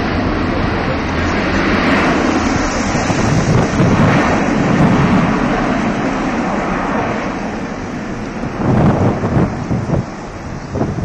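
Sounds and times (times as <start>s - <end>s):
jet engines running: 0.0s - 11.0s
wind buffeting microphone: 0.0s - 11.0s.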